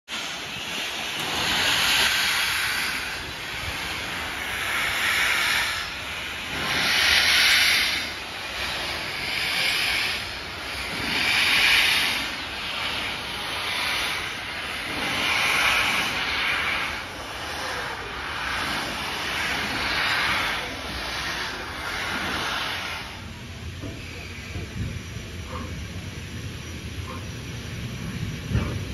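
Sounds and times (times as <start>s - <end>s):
steam locomotive hissing steam blasts: 0.1s - 28.9s.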